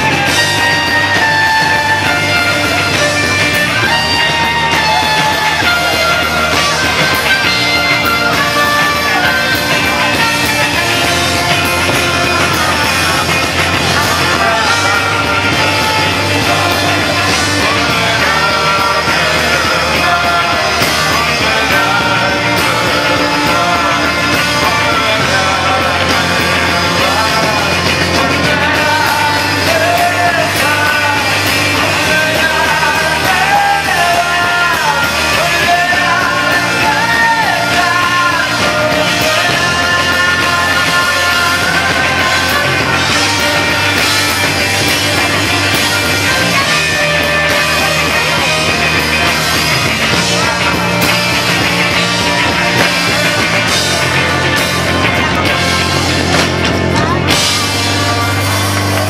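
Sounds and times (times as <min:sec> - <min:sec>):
man singing: 0:00.0 - 0:58.7
bass guitar: 0:00.0 - 0:59.0
drums: 0:00.0 - 0:59.0
electric guitar: 0:00.0 - 0:59.0.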